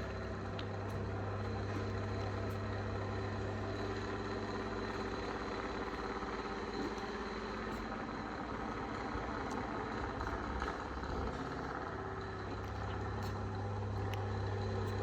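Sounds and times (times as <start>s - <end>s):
steady low hum with tones: 0.0s - 15.0s.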